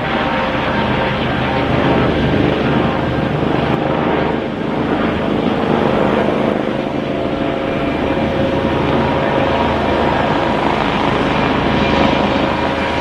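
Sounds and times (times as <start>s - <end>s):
helicopter rotor beat: 0.0s - 13.0s
helicopter turbine noise: 0.0s - 13.0s.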